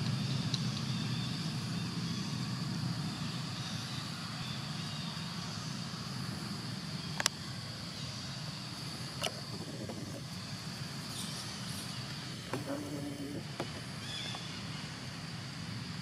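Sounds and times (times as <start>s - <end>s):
low rumble of distant traffic: 0.0s - 16.0s
thin high steady whine: 0.0s - 16.0s.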